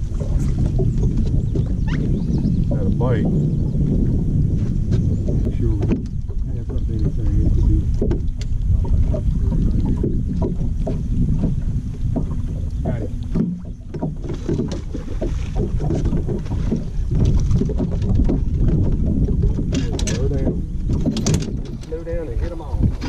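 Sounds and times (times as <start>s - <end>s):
water lapping against boat hull: 0.0s - 23.0s
wind rumbling on microphone: 0.0s - 23.0s.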